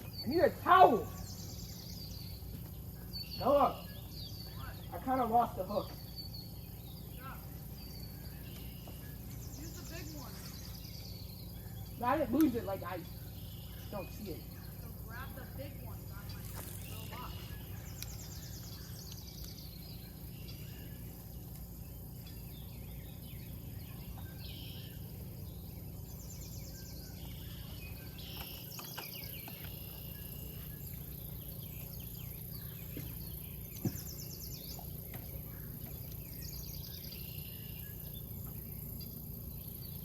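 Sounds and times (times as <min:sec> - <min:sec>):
birds singing trilled phrases: 0:00.0 - 0:40.0
low background rumble: 0:00.0 - 0:40.0.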